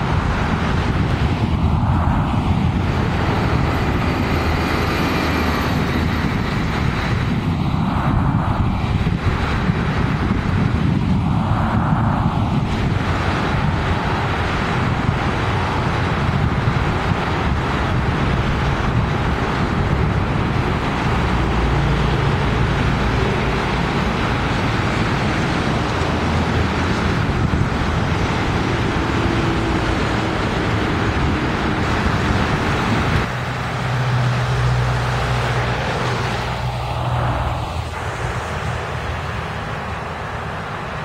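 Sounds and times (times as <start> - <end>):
low engine hum: 0.0 - 41.0
road traffic rumble: 0.0 - 41.0.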